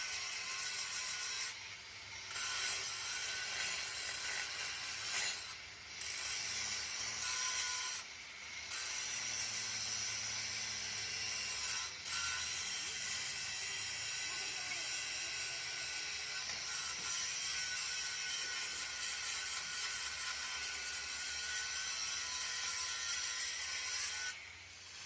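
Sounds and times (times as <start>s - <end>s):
metal rasping and scraping: 2.3s - 8.1s, 10.7s - 25.0s.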